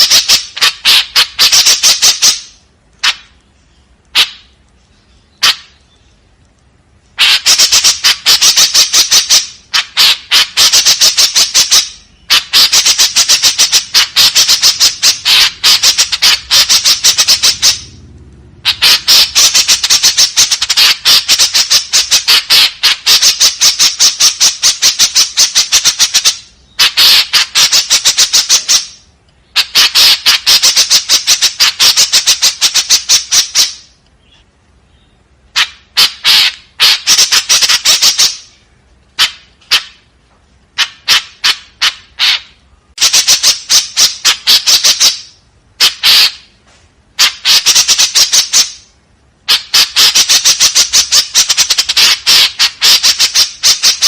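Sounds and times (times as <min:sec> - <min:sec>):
bird harsh chattering call: 0:00.0 - 0:06.2, 0:07.2 - 0:18.0, 0:18.6 - 0:40.1, 0:40.8 - 0:46.6, 0:47.2 - 0:48.9, 0:49.5 - 0:54.0.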